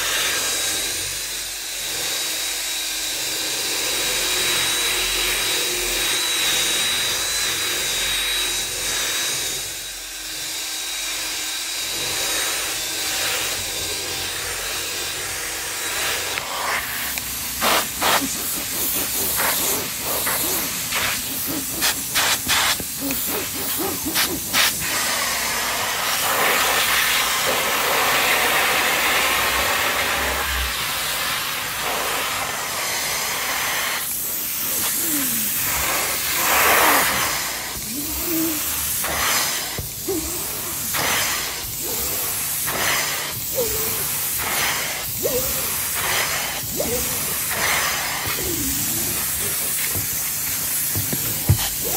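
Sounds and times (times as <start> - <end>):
carpet extractor hissing: 0.0 - 51.9.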